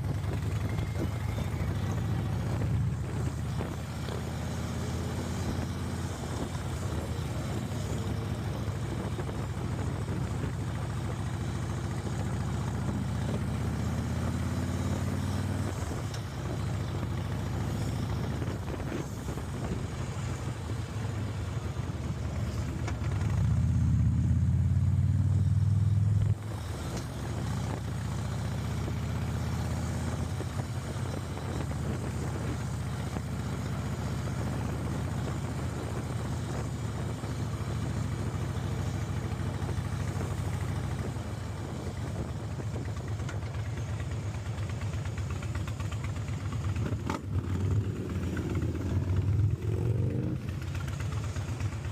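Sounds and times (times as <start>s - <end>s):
motorcycle engines rumbling: 0.0s - 51.9s.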